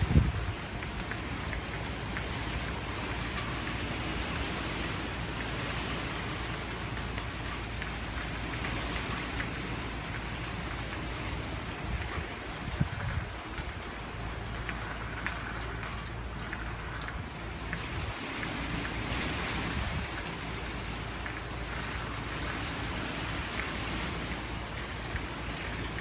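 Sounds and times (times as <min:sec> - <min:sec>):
faint raindrop ticks: 0:00.0 - 0:26.0
heavy rain hissing: 0:00.0 - 0:26.0.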